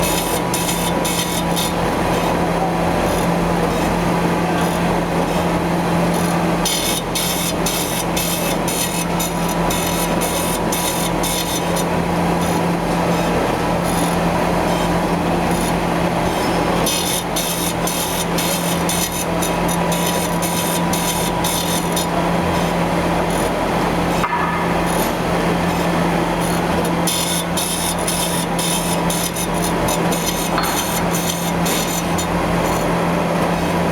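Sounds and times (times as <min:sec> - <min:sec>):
gear-grinding machine running: 0:00.0 - 0:33.9.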